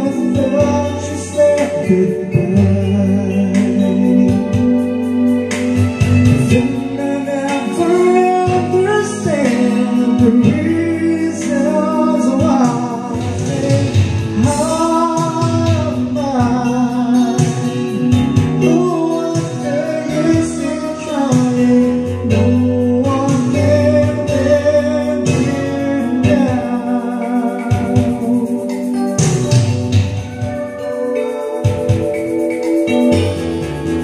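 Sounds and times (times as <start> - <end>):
instrumental backing: 0.0 - 34.0
karaoke ballad singing: 0.0 - 34.0.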